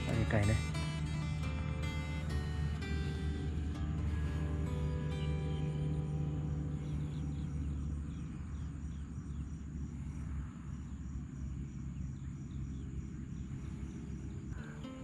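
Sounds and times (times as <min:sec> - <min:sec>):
insect chirping rhythmically: 0:00.0 - 0:15.0
low outdoor rumble: 0:00.0 - 0:15.0.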